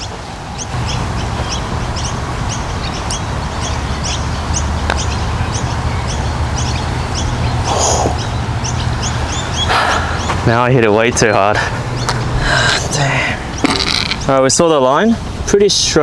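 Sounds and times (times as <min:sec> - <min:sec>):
bird chirping: 0:00.0 - 0:15.0
steady low rumble: 0:00.0 - 0:16.0.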